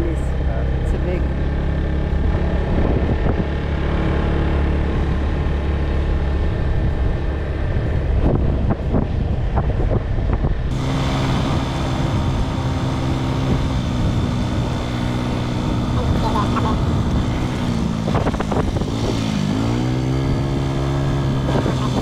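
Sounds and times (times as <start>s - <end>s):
motor scooter engine running: 0.0s - 22.0s
wind noise on microphone: 2.0s - 22.0s.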